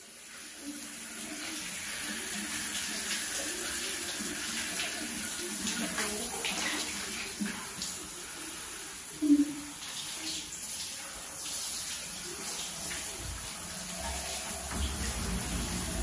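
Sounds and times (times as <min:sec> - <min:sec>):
shower water spraying: 0:00.0 - 0:16.0.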